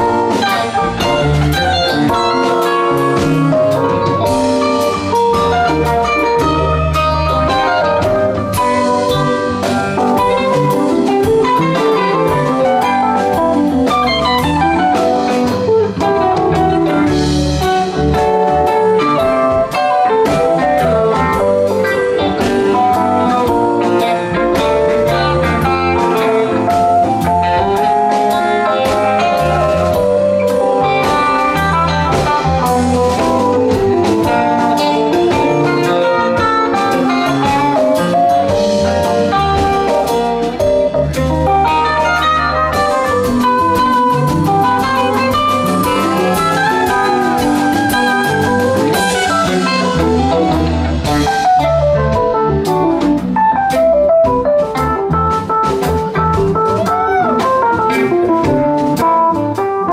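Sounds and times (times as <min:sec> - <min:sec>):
bass guitar: 0:00.0 - 0:59.9
drum kit: 0:00.0 - 0:59.9
electric guitar lead lines: 0:00.0 - 0:59.9.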